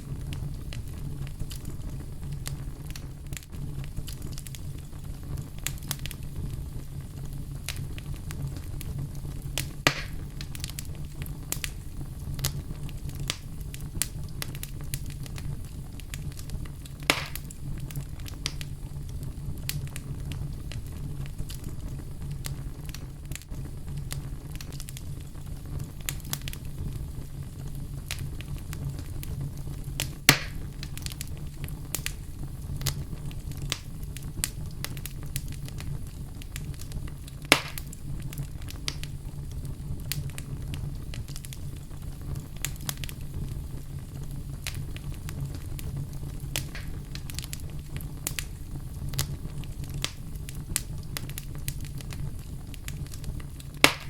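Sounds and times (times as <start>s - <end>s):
fire rumbling and crackling: 0.0s - 54.0s
loud sharp fire pops: 0.0s - 54.0s.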